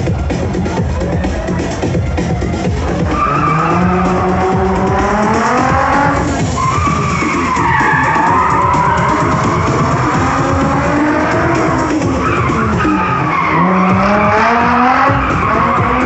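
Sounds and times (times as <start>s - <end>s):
engine running: 0.0s - 16.0s
music playing: 0.0s - 16.0s
car tyres squealing: 2.5s - 16.0s.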